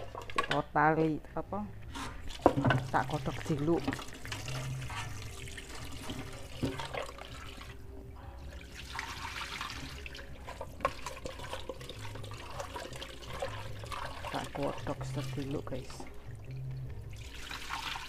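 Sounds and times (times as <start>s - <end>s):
pot being rinsed: 0.0s - 0.6s, 1.8s - 18.0s
water poured into sink: 2.0s - 7.8s, 8.4s - 18.0s.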